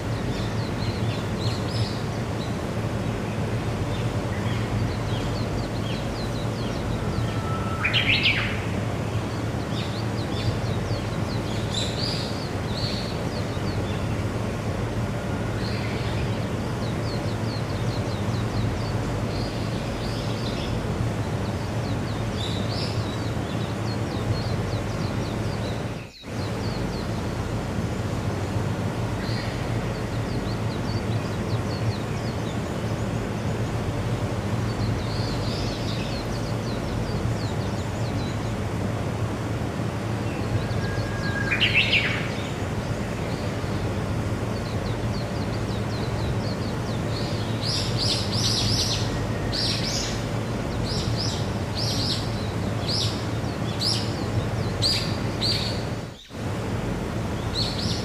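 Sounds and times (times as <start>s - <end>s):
small birds chirping faintly: 0.0s - 58.0s
steady background noise: 0.0s - 58.0s.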